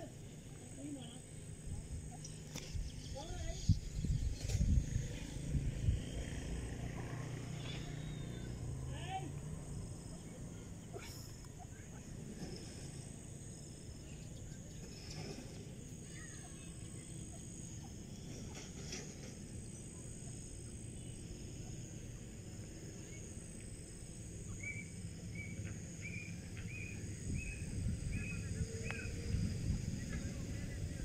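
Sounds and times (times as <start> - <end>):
steady low rumble: 0.0 - 16.0, 16.6 - 31.0.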